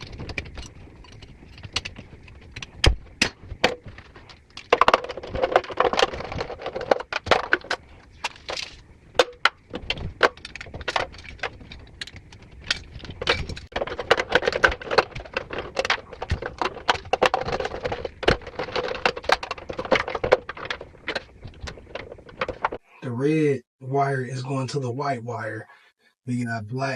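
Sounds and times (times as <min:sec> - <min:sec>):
small clicks and rattles of wiring: 0:00.0 - 0:22.8.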